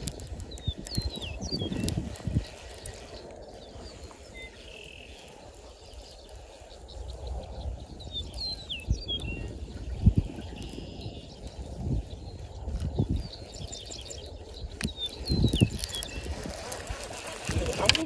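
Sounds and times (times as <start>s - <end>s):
birds chirping and whistling: 0.0s - 18.0s.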